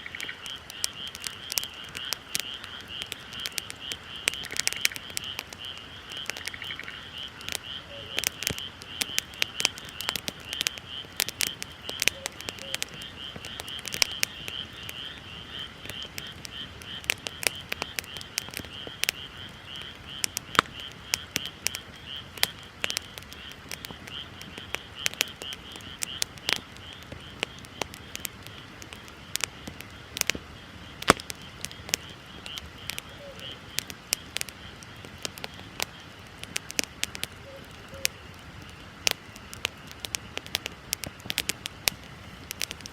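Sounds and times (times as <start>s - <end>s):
bonfire crackling and popping: 0.0s - 42.9s.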